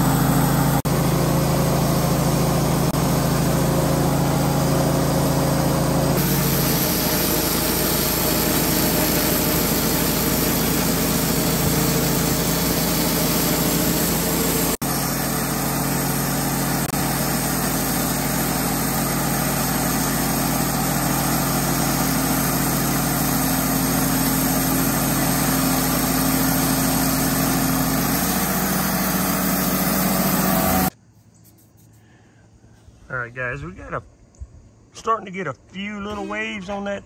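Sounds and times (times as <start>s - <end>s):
band saw cutting log: 0.0s - 30.9s
sawmill engine running: 0.0s - 30.9s.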